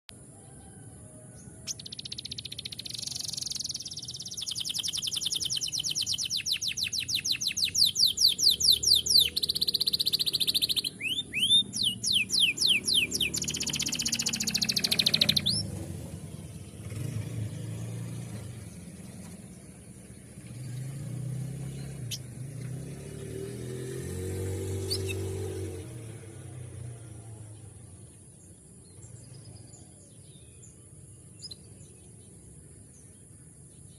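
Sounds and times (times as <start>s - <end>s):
canary singing trills: 1.3s - 33.2s.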